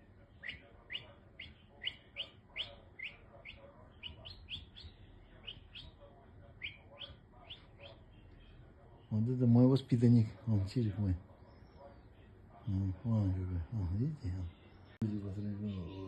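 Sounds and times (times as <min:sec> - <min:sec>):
bird chirping: 0:00.3 - 0:08.6, 0:10.4 - 0:16.0.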